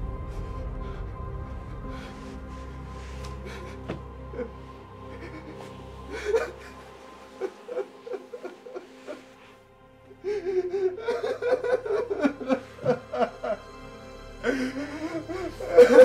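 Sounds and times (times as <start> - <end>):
sombre music with held tones: 0.0 - 16.0.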